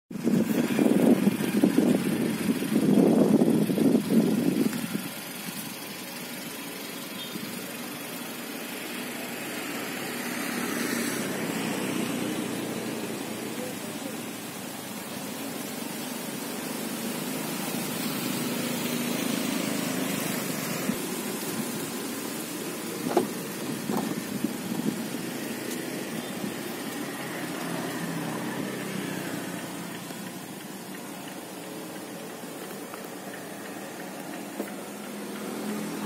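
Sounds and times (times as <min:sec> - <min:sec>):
car engine idling: 0:00.1 - 0:36.0.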